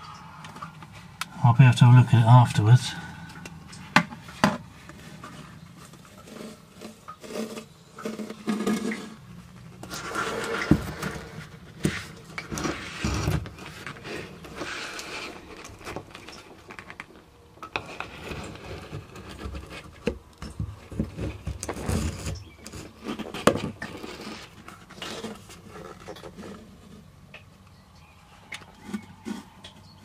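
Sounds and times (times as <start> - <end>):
knocks and scrapes: 3.6 - 27.6, 28.5 - 30.0.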